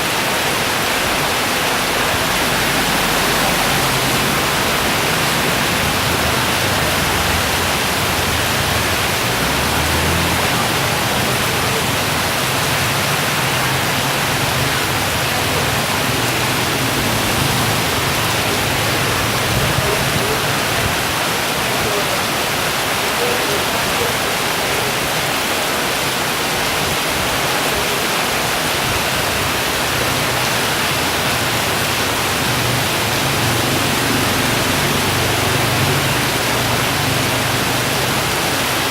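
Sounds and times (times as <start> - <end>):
heavy rain downpour: 0.0 - 38.9
wind: 0.0 - 38.9.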